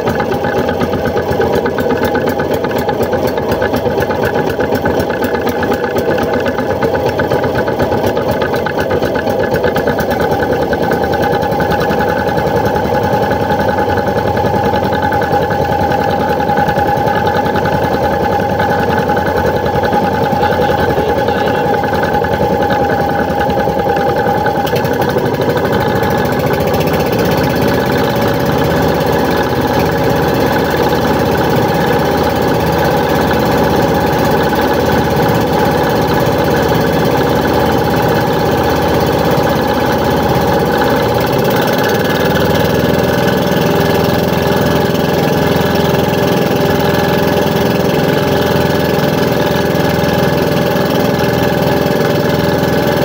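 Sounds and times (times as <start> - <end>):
boat motor running: 0.0 - 53.0.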